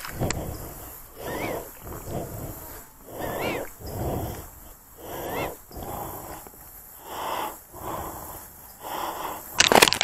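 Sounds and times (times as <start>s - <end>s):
person breathing hard: 0.0s - 10.0s.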